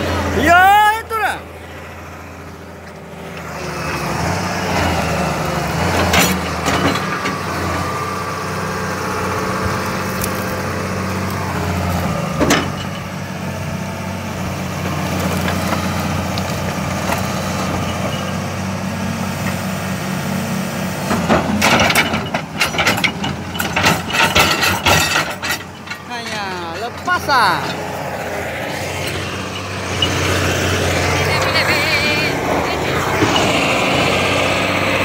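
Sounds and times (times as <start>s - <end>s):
diesel engine humming: 0.0s - 35.0s.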